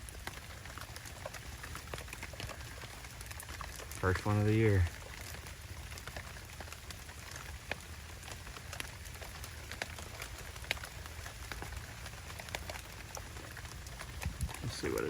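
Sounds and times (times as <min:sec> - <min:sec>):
heavy rain falling: 0:00.0 - 0:15.0
raindrops ticking sharply: 0:00.0 - 0:15.0.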